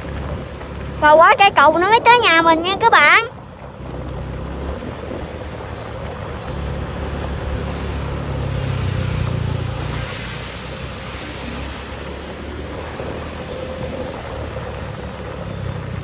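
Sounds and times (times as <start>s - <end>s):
wind on microphone: 2.2s - 15.7s.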